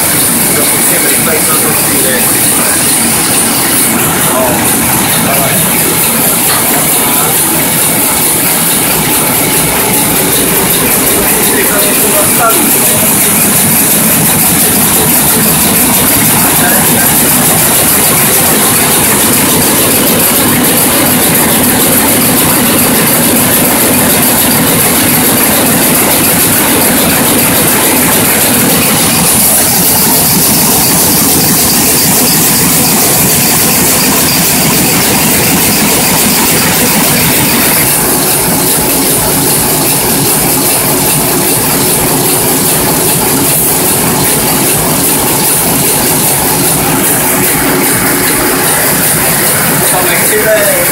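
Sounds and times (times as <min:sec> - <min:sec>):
printing press mechanical din: 0:00.0 - 0:50.9.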